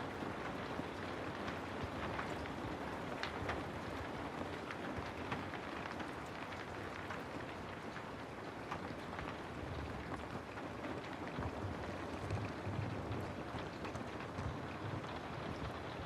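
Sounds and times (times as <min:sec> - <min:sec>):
rain pattering on a house: 0:00.0 - 0:16.0.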